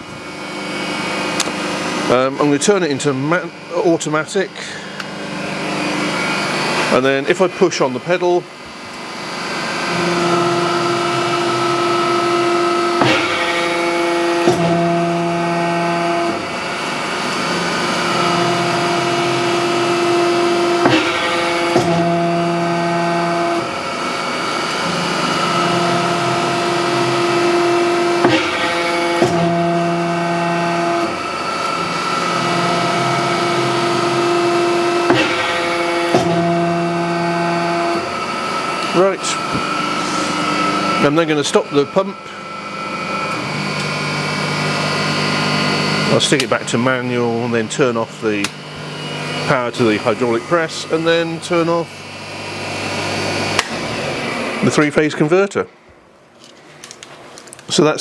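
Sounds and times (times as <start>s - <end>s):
hydraulic pump humming: 0.0s - 56.0s.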